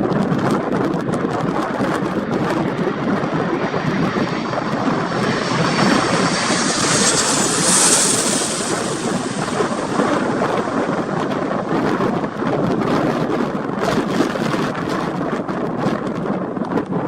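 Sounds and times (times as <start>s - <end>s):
wind rumbling on microphone: 0.0s - 17.0s
airliner engines passing: 0.1s - 16.1s.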